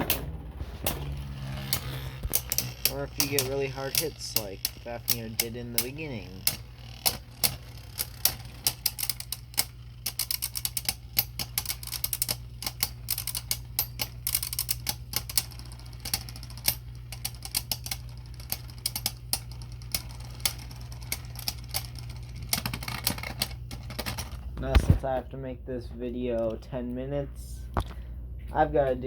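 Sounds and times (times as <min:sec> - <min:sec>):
plastic spinning tops clashing: 0:00.0 - 0:24.4
steady low hum: 0:00.0 - 0:29.0.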